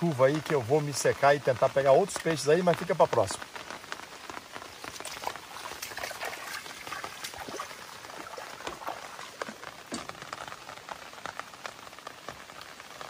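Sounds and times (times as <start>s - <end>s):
rain falling on river water: 0.0s - 13.0s.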